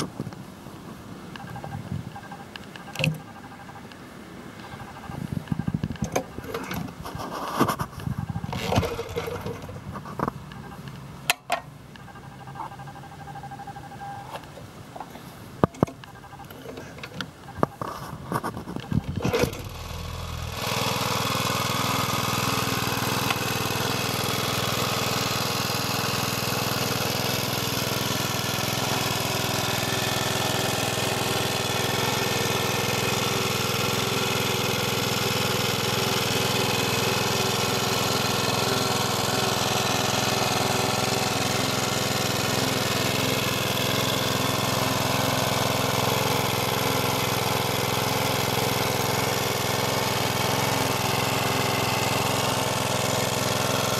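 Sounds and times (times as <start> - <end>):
lawn mower engine running: 1.4 - 3.8, 4.6 - 53.9.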